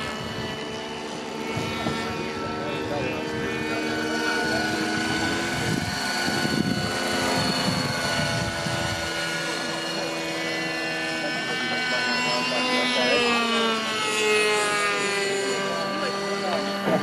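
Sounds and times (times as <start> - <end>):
model helicopter whine: 0.0 - 17.0
rotor fluttering: 0.0 - 17.0.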